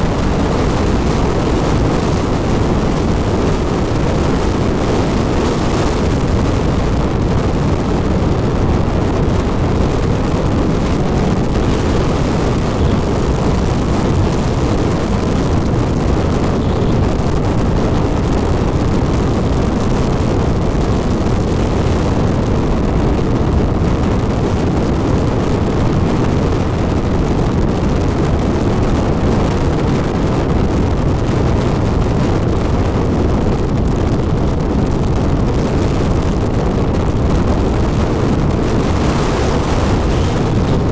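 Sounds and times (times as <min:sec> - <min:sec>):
motorcycle running: 0:00.0 - 0:40.9
wind rushing on microphone: 0:00.0 - 0:40.9.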